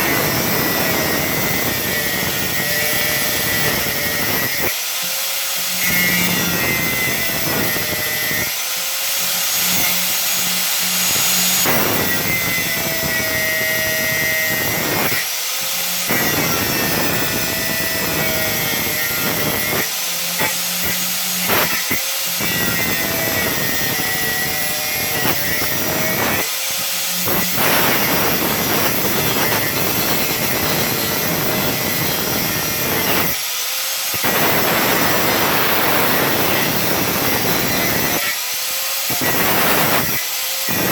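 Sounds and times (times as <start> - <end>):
angle grinder grinding metal: 0.0 - 40.9.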